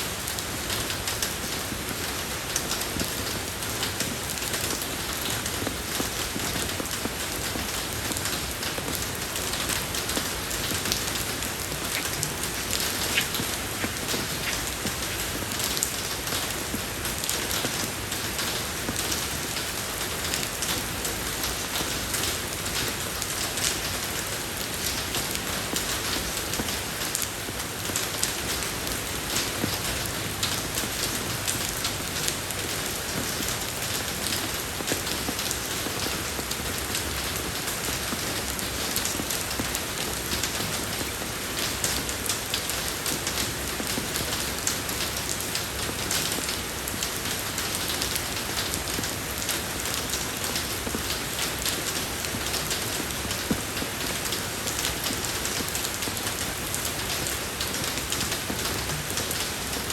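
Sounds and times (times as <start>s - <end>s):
rain falling on a road: 0.0s - 59.9s.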